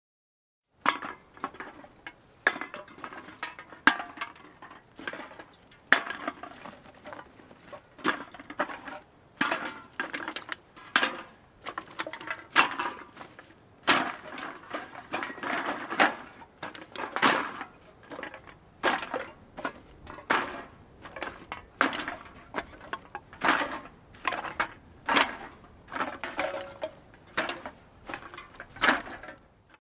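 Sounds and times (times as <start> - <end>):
metal cans clattering onto a pile: 0.8 - 29.8.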